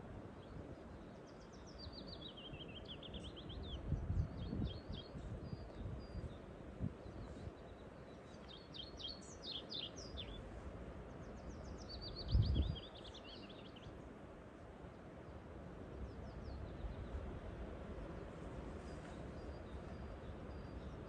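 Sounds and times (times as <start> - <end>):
songbird chirping: 0.4 - 14.2, 14.8 - 21.0.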